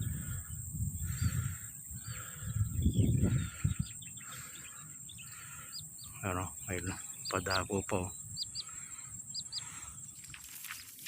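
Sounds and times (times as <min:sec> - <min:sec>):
harsh bird calls: 0:00.0 - 0:11.0
small bird chirps: 0:00.0 - 0:11.0.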